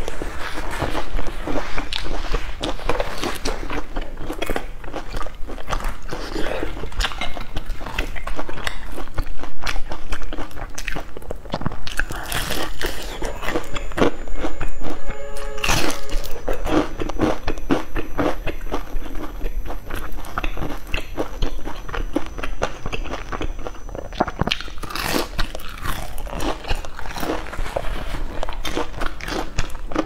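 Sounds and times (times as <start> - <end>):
crunching and chewing fried food: 0.0 - 30.0.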